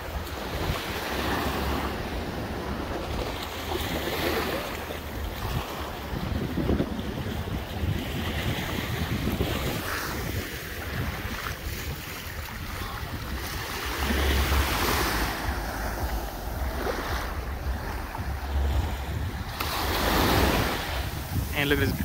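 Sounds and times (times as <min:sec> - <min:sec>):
small waves lapping on shore: 0:00.0 - 0:22.0
wind rumbling on microphone: 0:00.0 - 0:22.0.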